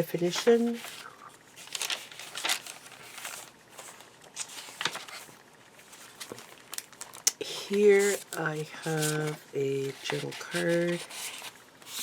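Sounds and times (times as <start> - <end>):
paper rustling: 0.2 - 12.0.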